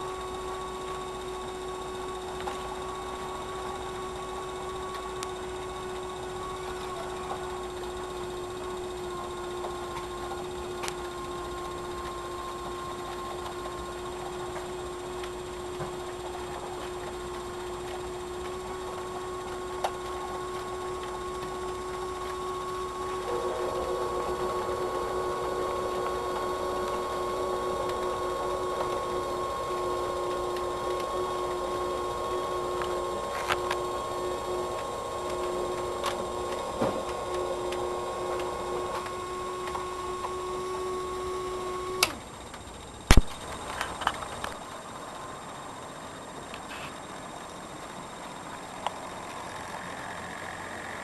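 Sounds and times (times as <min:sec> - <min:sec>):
electric motor whine: 0:00.0 - 0:51.0.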